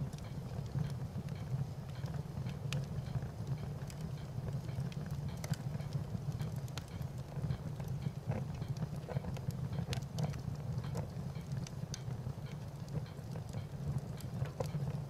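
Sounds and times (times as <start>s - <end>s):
fire crackling with snaps and pops: 0.0s - 15.0s.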